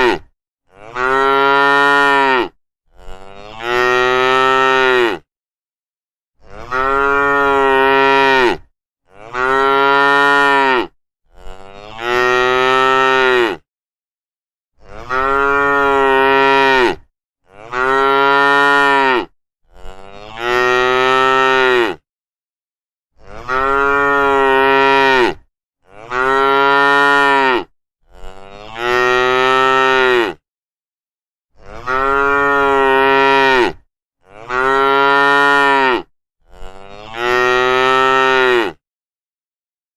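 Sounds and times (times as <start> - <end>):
cattle mooing: 0.0 - 5.2, 6.4 - 13.6, 14.8 - 22.0, 23.2 - 30.4, 31.6 - 38.8.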